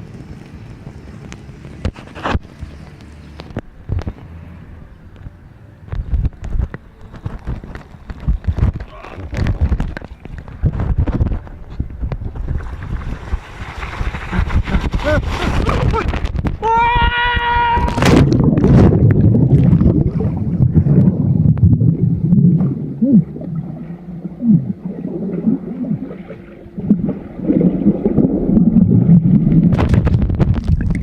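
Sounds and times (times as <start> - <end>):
wind buffeting: 6.0 - 31.0.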